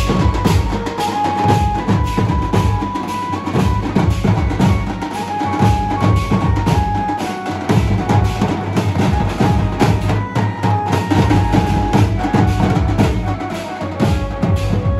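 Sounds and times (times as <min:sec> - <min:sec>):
bass drums beaten fast: 0:00.0 - 0:03.0, 0:03.6 - 0:05.0, 0:05.6 - 0:07.1, 0:07.7 - 0:10.4, 0:11.1 - 0:14.9
high held melody line: 0:00.0 - 0:14.9.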